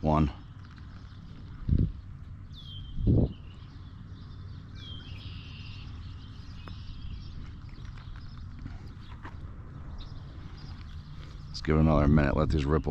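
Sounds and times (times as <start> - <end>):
bird calling: 0.0 - 12.9
steady low rumble: 0.0 - 12.9.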